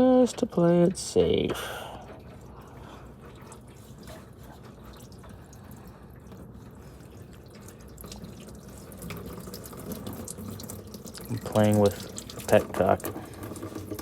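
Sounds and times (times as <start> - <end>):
coolant dripping and trickling: 0.0 - 14.0.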